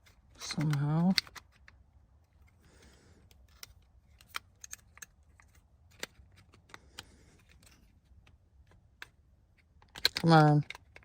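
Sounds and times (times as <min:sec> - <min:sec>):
plastic parts clicking: 0:00.0 - 0:02.6, 0:03.2 - 0:11.0.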